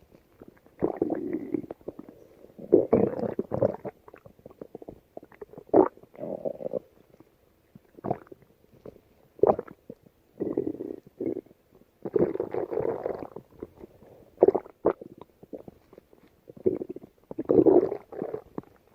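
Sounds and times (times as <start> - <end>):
stomach growling and gurgling: 0.0 - 18.9.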